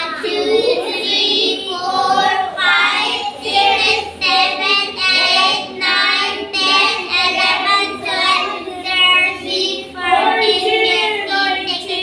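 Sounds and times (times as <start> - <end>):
children chanting numbers: 0.0 - 12.0.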